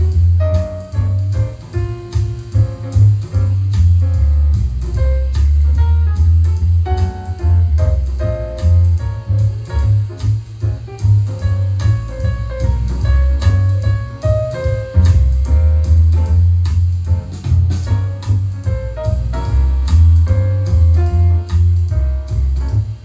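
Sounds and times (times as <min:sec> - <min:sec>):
music with piano and drums: 0:00.0 - 0:23.0.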